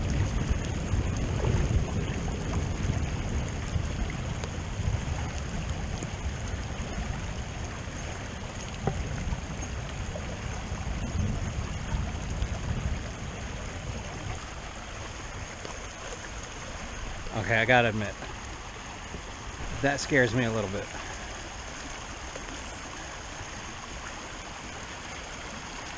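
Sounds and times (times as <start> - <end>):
creek rushing: 0.0 - 25.9.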